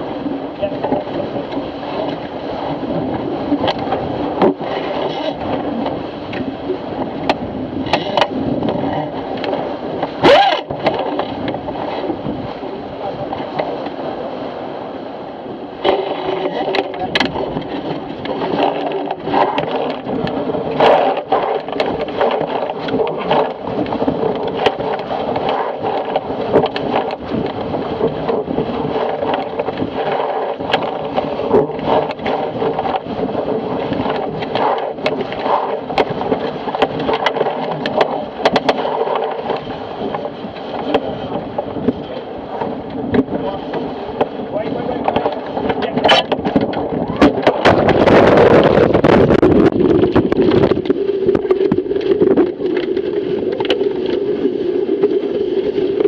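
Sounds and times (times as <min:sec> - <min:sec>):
hull slapping waves: 0:00.0 - 0:56.0
water rushing along hull: 0:00.0 - 0:56.0.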